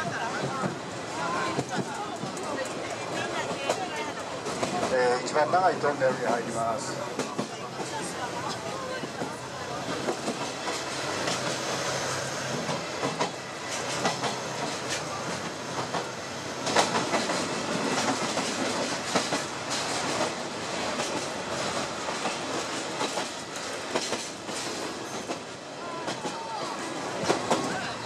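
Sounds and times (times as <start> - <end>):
clickety-clack of rail joints: 0.0 - 11.6, 12.5 - 28.0
steel wheels rolling on rail: 0.0 - 28.0.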